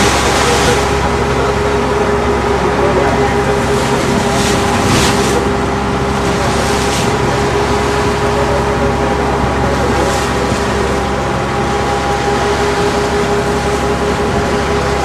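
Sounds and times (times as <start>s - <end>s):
boat engine droning: 0.0s - 15.0s
water and wind rushing: 0.0s - 15.0s.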